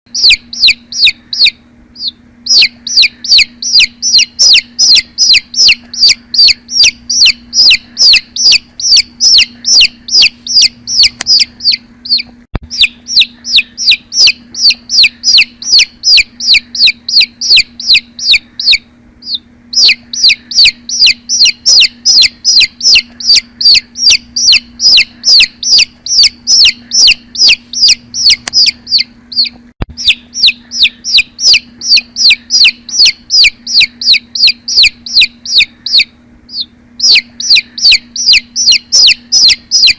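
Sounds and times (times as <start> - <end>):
chicks peeping: 0.1 - 39.9.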